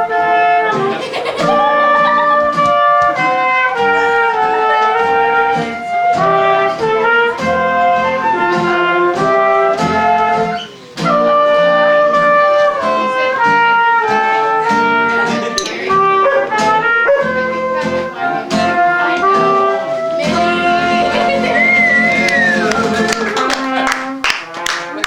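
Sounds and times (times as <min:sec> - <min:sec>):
horn melody of held notes: 0:00.0 - 0:24.0
strummed guitar: 0:00.0 - 0:25.0.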